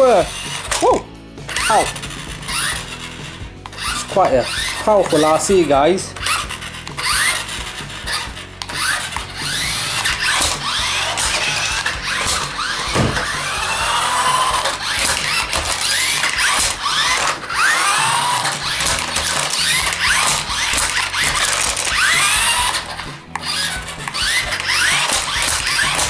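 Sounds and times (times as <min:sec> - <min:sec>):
toy car electric motors whining: 0:00.0 - 0:26.0.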